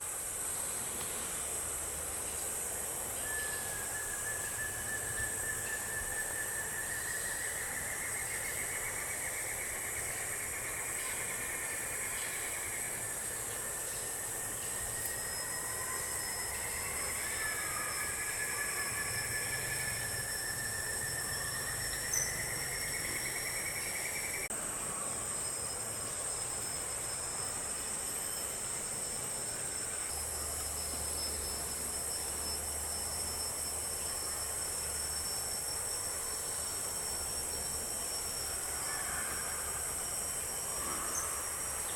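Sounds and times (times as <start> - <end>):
insects droning: 0.0 - 41.9
low wavering whine: 3.0 - 41.9.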